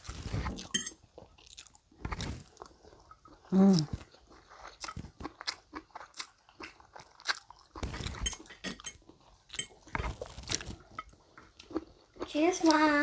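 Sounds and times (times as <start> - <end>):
person chewing noodles: 0.0 - 12.9.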